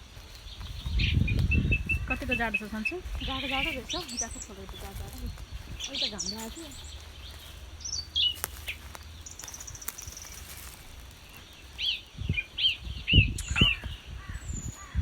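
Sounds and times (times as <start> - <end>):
bird chirps: 0.0 - 15.0
high bird trill: 0.0 - 15.0
small birds calling: 0.0 - 15.0.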